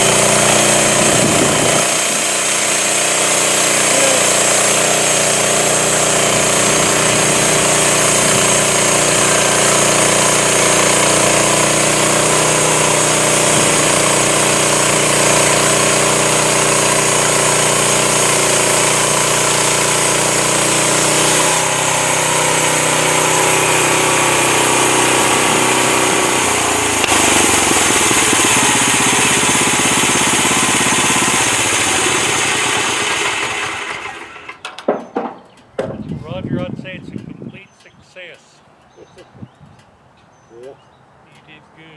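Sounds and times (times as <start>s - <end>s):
band sawmill cutting log: 0.0s - 34.6s.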